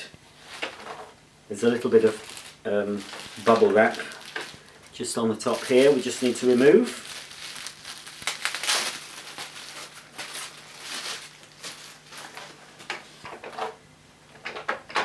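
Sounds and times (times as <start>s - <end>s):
bubble wrap crinkling: 0.4s - 13.2s.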